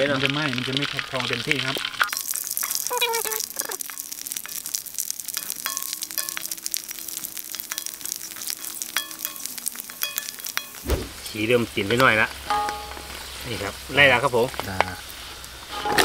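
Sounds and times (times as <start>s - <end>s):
deep-frying crackling and sizzling: 0.0s - 16.0s.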